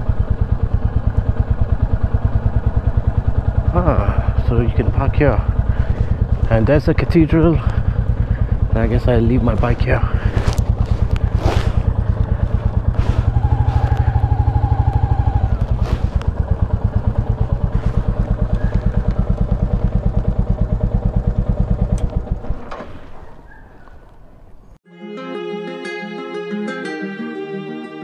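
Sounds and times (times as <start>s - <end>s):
motorcycle engine idling: 0.0s - 23.6s.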